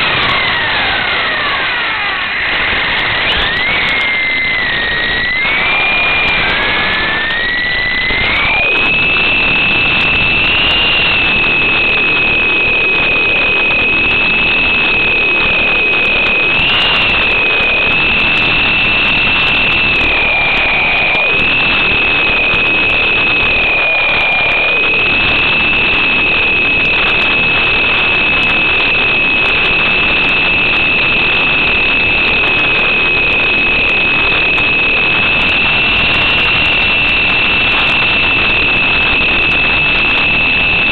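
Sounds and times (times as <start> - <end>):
rc helicopter rotors whining: 0.0 - 40.9.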